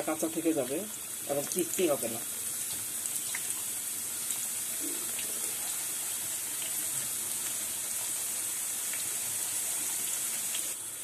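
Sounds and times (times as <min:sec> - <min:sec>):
deep-frying sizzling hiss: 0:00.0 - 0:11.0.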